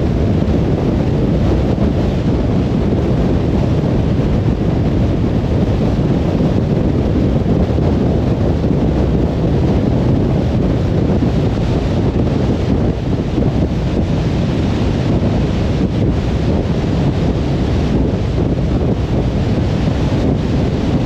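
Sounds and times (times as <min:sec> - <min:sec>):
car tyre and wind noise: 0:00.0 - 0:21.0.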